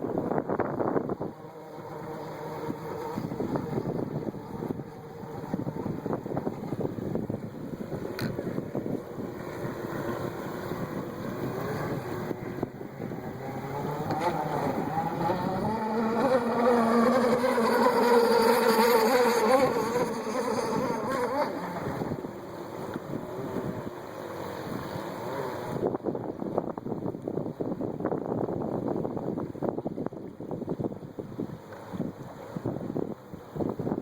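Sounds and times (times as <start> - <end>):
model boat gas engine racing: 0.0 - 34.0.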